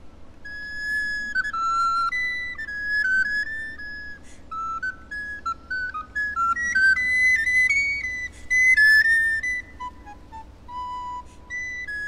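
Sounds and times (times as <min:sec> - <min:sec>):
soprano recorder playing: 0:00.4 - 0:12.0.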